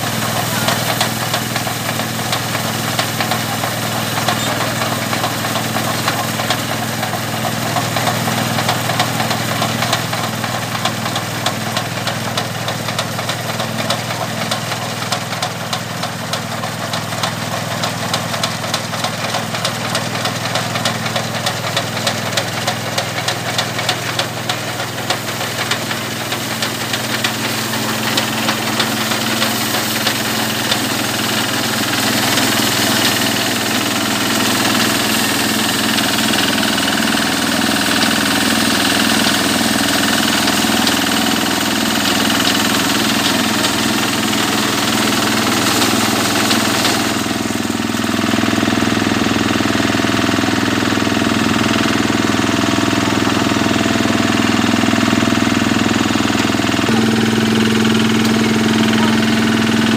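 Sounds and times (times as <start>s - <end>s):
fast machinery ticking: 0.0s - 47.5s, 56.6s - 59.9s
diesel engine running: 0.0s - 59.9s.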